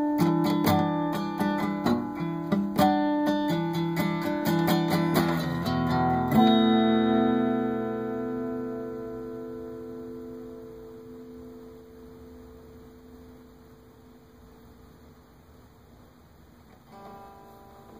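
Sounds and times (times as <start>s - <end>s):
acoustic guitar chord ringing: 0.0s - 14.5s, 16.8s - 17.9s.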